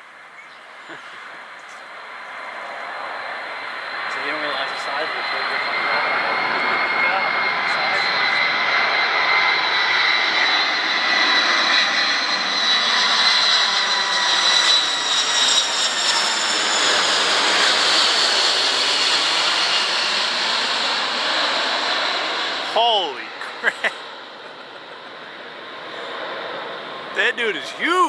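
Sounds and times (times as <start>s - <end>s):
jet engines roaring overhead: 0.7s - 27.8s
high jet whine: 2.1s - 28.0s.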